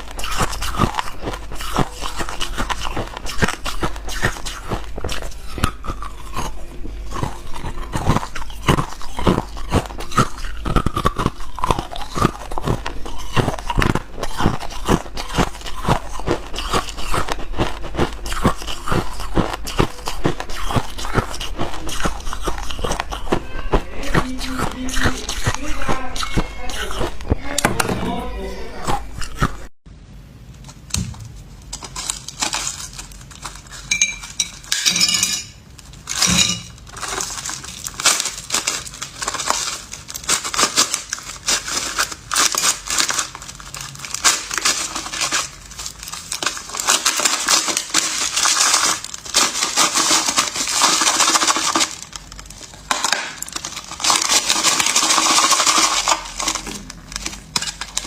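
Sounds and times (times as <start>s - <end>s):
ice crunching while chewed: 0.0s - 27.6s, 28.8s - 29.7s, 31.6s - 34.7s, 35.7s - 58.0s.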